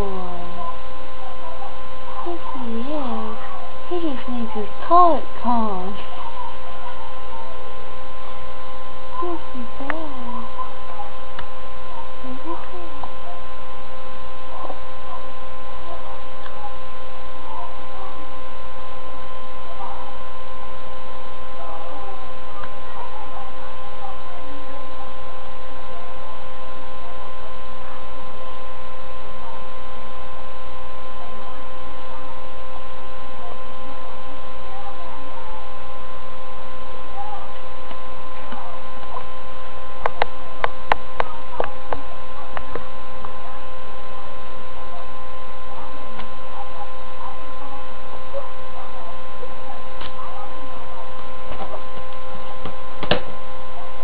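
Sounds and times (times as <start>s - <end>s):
electrical hum: 0.0s - 54.0s.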